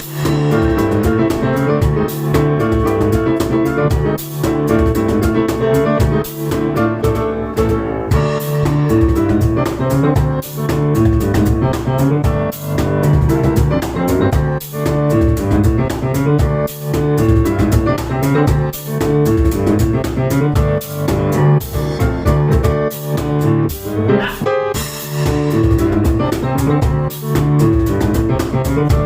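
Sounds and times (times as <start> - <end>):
piano chords: 0.0 - 29.0.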